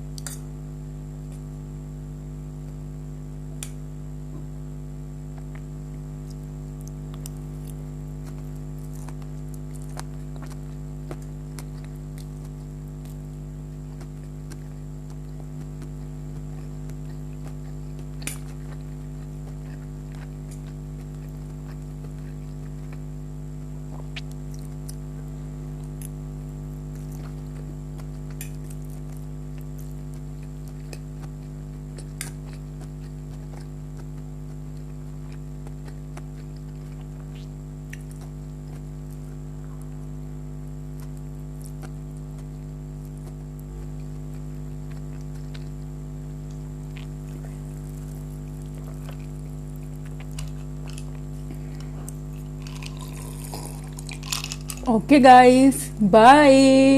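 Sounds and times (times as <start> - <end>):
steady electrical hum: 0.0 - 56.9
mouth sounds of eating: 3.6 - 56.9.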